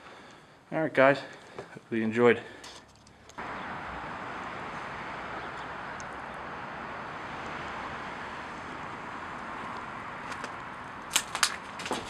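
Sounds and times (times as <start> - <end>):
continuous outdoor hiss: 0.0 - 12.0.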